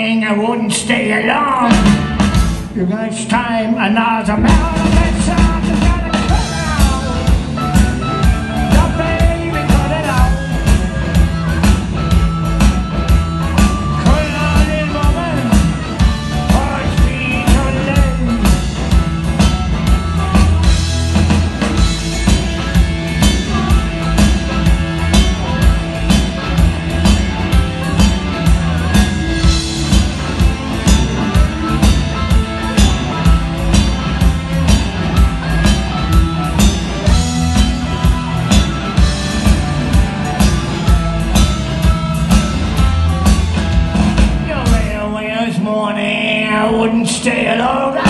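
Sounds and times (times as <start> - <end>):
electric guitar: 0.0 - 48.0
drum kit beat: 1.0 - 3.0, 4.2 - 48.0.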